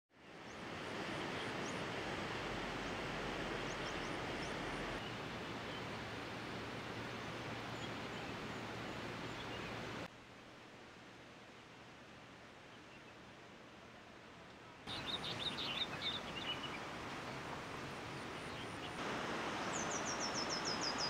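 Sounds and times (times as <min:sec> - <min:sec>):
river rushing: 0:00.2 - 0:21.0.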